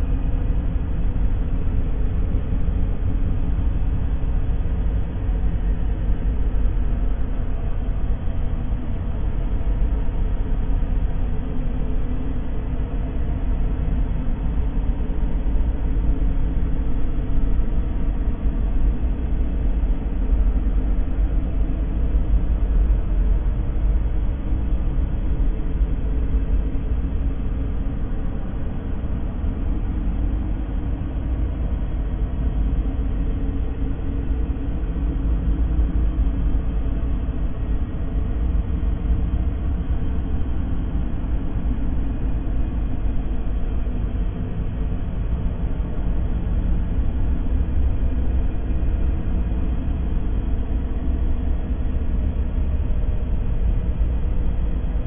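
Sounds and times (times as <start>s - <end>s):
steady deep noise: 0.0s - 55.0s.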